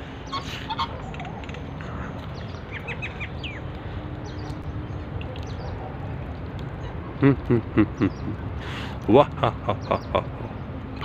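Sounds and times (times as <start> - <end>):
birds calling: 0.0 - 11.0
outdoor background hiss: 0.0 - 11.0.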